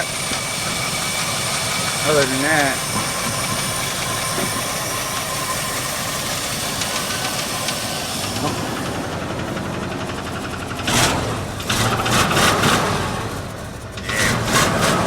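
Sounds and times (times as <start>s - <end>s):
truck engine idling with ticking: 0.0s - 15.0s.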